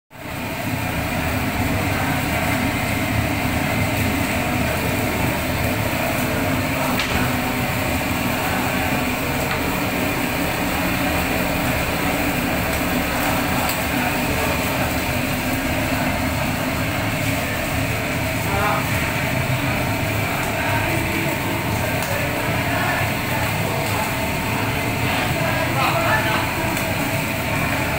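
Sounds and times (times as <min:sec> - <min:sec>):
gas burner hissing: 0:00.2 - 0:27.9.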